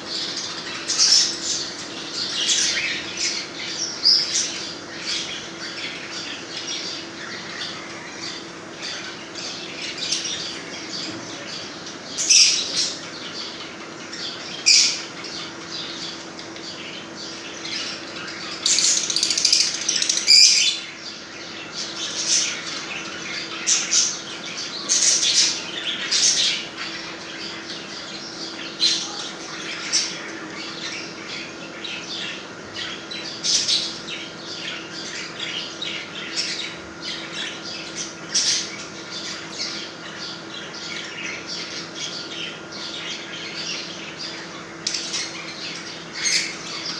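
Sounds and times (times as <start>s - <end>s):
faint steady hum: 0.0s - 46.9s
small parrots squawking and chattering: 0.1s - 46.9s.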